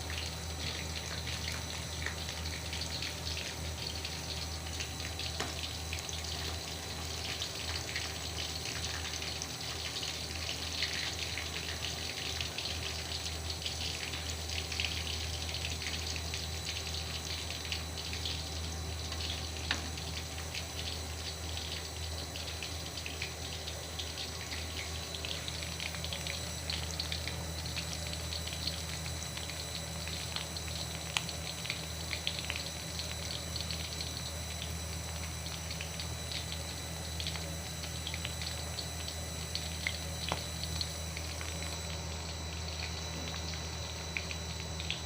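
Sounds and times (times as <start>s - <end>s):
oil sizzling in a pan: 0.0s - 45.0s.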